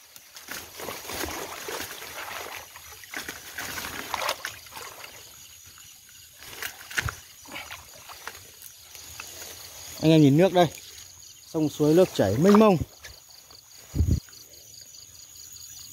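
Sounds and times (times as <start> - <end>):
leaves and branches rustling: 0.0 - 14.5
water sloshing: 0.1 - 13.8.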